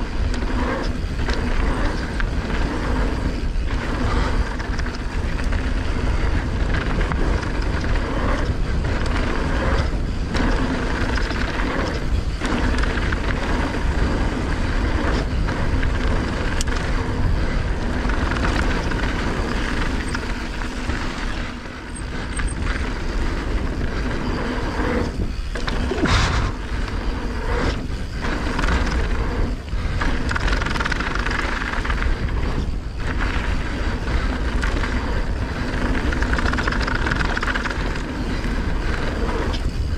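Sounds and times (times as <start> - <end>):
bike tyres crunching over gravel: 0.0 - 39.9
wind rush on microphone: 0.0 - 39.9.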